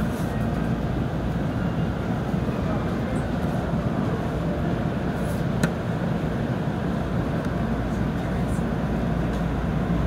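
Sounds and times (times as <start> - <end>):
train cab rumbling: 0.0 - 10.0.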